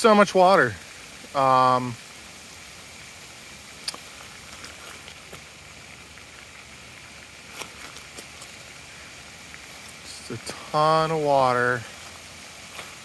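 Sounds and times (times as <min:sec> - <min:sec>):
floodwater running over ground: 0:00.0 - 0:13.0.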